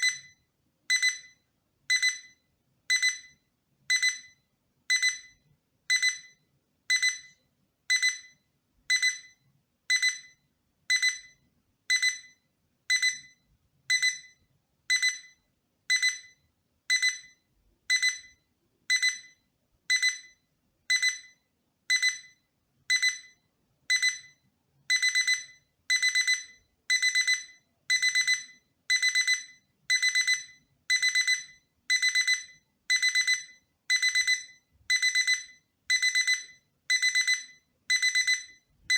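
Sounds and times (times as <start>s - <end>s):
alarm clock beeping: 0.0s - 38.9s.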